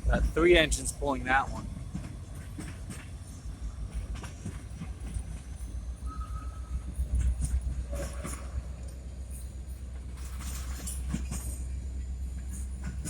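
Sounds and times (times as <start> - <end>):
freight train rumbling past: 0.0 - 13.0
wheels clacking over rail joints: 0.0 - 13.0.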